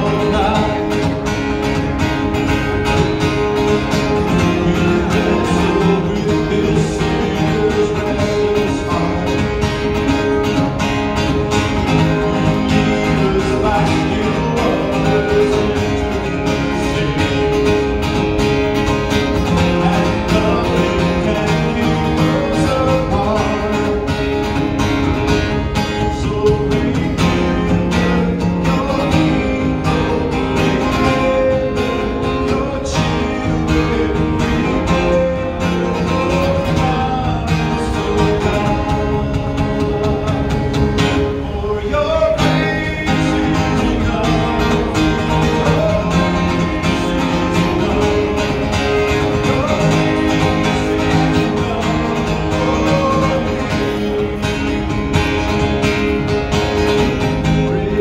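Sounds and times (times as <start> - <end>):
man singing into microphone: 0.0 - 1.6, 4.0 - 17.8, 19.1 - 54.9, 57.2 - 58.0
amplified acoustic guitar strumming: 0.0 - 58.0.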